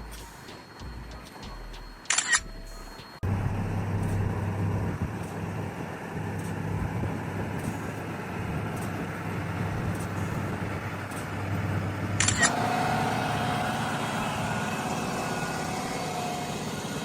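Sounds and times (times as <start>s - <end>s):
heavy machine engine droning: 0.0s - 17.0s.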